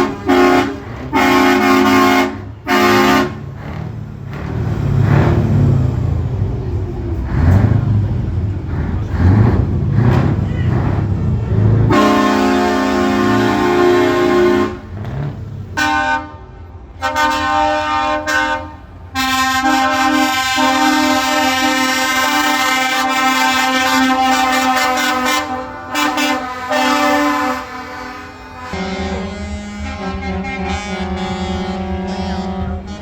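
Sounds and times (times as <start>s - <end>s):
truck air horn blasts: 0.0s - 3.7s, 10.2s - 33.0s.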